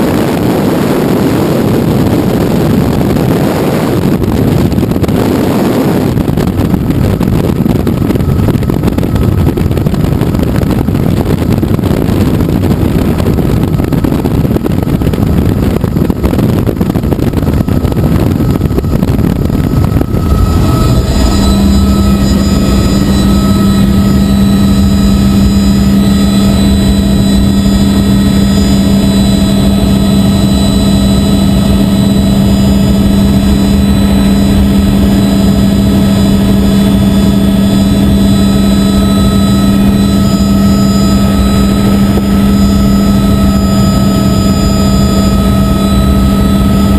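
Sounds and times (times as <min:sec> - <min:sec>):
helicopter engine and rotor hum: 0:00.0 - 0:46.9
wind rush on microphone: 0:00.0 - 0:46.9.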